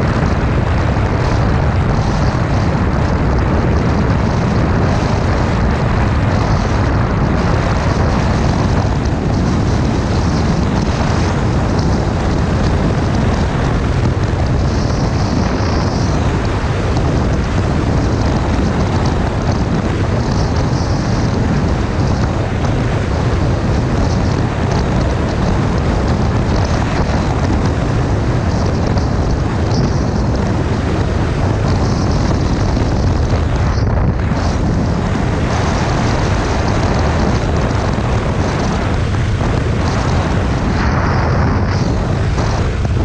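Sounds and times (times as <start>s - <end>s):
motorcycle engine drone: 0.0s - 43.0s
wind buffeting microphone: 0.0s - 43.0s
wind rush: 0.0s - 43.0s.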